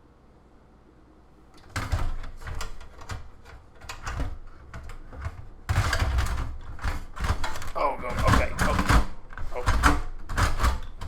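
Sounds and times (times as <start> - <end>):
computer parts clicking and rattling: 1.6 - 11.0.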